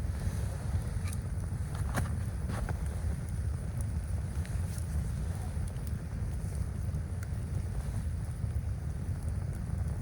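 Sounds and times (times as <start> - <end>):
blizzard wind buffeting microphone: 0.0 - 10.0.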